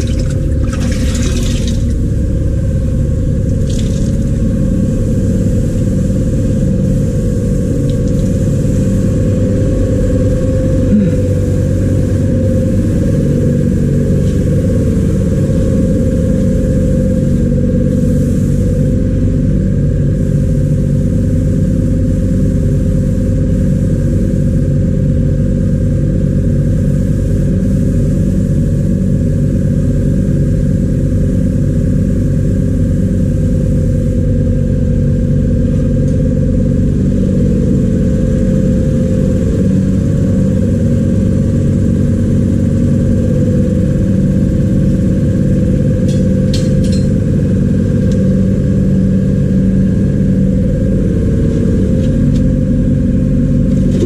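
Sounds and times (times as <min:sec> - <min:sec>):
vacuum pump running: 0:00.0 - 0:54.0.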